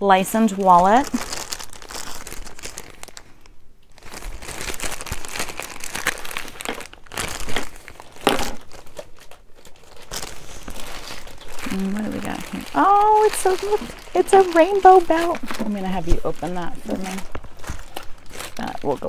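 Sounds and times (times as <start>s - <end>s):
plastic bag crinkling: 0.1s - 19.0s.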